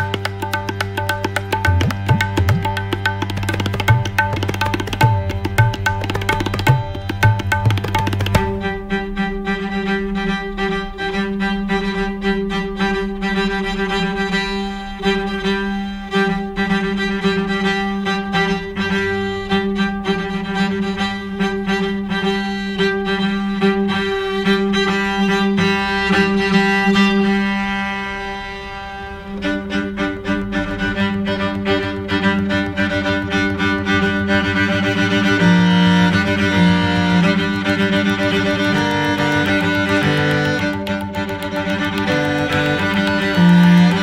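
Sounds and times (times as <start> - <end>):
bowed strings: 0.0 - 44.0.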